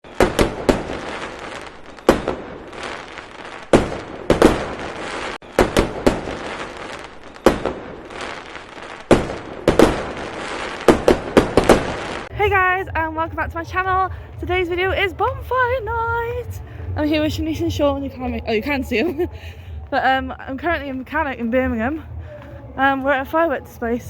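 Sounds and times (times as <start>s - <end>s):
fireworks bangs: 0.0s - 22.6s.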